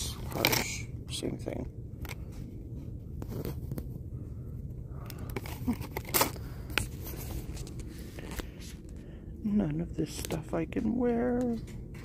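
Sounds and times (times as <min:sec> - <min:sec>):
store background hum: 0:00.0 - 0:12.0.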